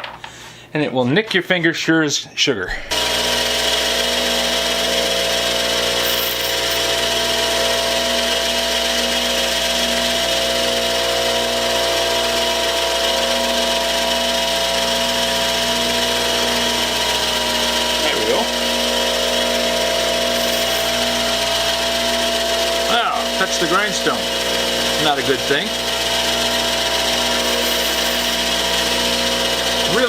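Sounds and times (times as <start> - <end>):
bench grinder grinding metal: 2.8 - 30.0.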